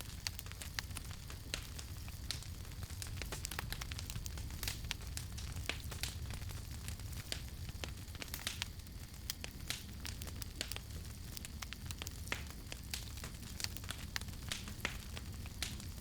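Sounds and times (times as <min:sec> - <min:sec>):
campfire crackling and popping: 0:00.0 - 0:16.0
low rumble of flames: 0:00.0 - 0:16.0.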